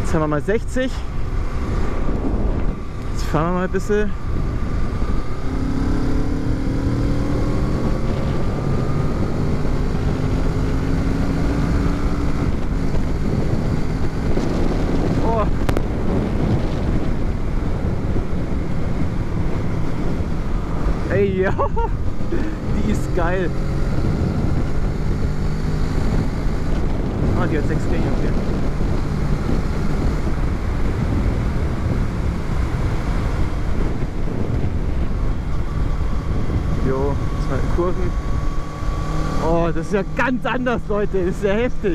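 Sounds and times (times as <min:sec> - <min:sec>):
motorcycle engine accelerating: 0:00.0 - 0:41.9
wind rush on microphone: 0:00.0 - 0:41.9.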